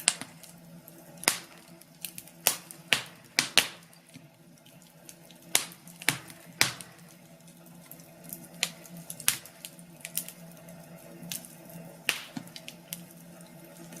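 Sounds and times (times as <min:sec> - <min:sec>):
faint steady hum: 0:00.0 - 0:14.0
wood fire crackling: 0:00.0 - 0:14.0.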